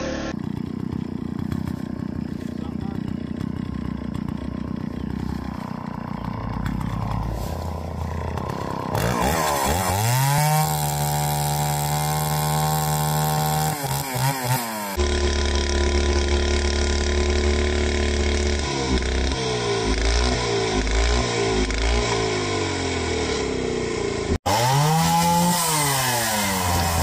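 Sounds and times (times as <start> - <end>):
chainsaw cutting log: 0.0 - 27.0.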